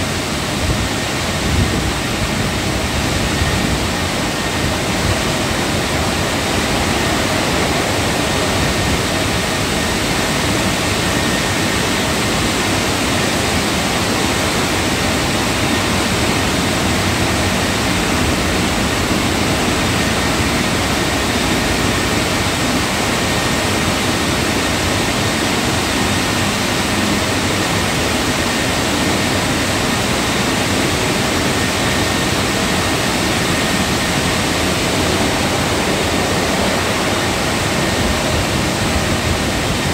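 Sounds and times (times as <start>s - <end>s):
car wash rushing noise: 0.0s - 39.9s.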